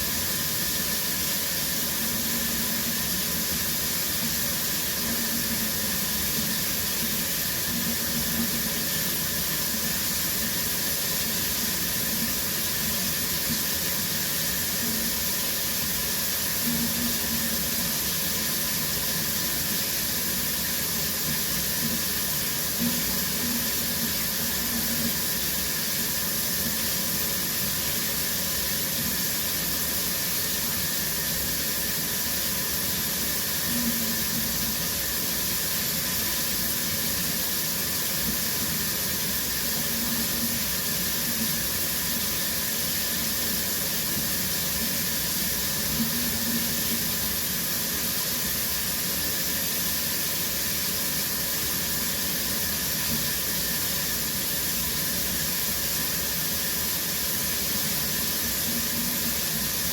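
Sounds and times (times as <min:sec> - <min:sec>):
shower water spraying: 0:00.0 - 0:59.9.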